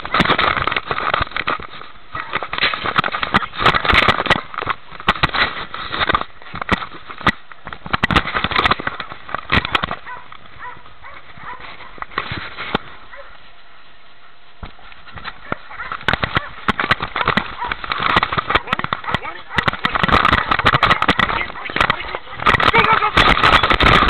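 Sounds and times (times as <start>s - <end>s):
camera knocking and rubbing: 0.0s - 12.9s, 14.6s - 24.0s.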